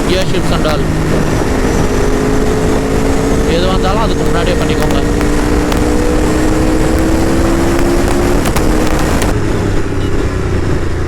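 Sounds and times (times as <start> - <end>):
motorcycle engine at speed: 0.0 - 11.0
wind rush: 0.0 - 11.0.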